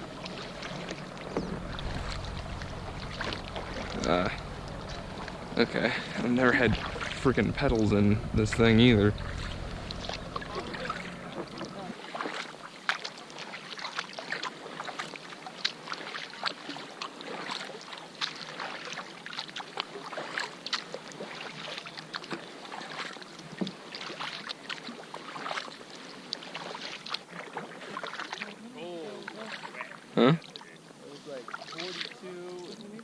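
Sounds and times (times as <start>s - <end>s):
kayak moving through water: 0.0s - 33.0s
small splashes against hull: 0.0s - 33.0s.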